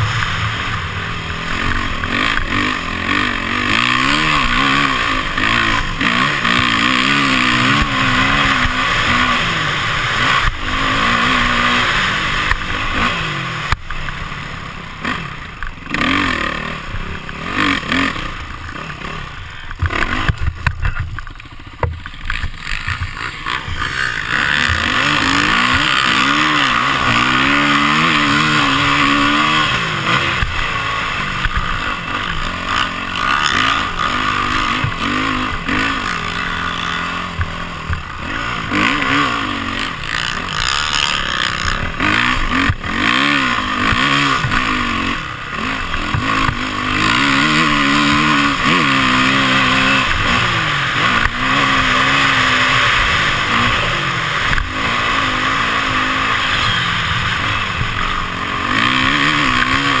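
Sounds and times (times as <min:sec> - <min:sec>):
dirt bike engine revving: 0:00.0 - 1:00.0.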